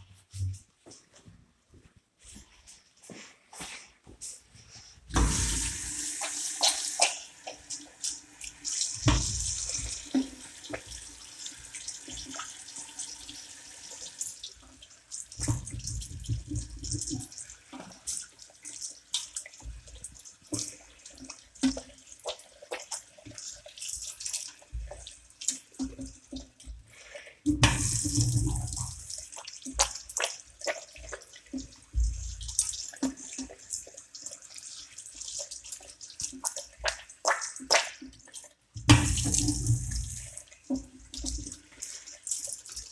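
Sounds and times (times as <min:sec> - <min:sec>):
water running from sink tap: 0:05.1 - 0:26.8, 0:27.5 - 0:42.9.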